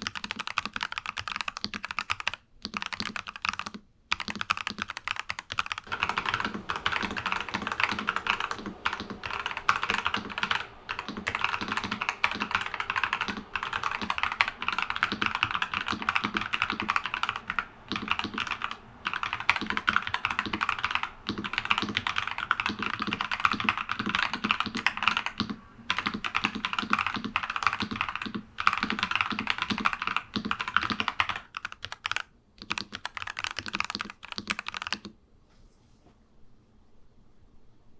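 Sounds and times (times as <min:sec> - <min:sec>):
fast mechanical keyboard typing: 0:00.0 - 0:35.2.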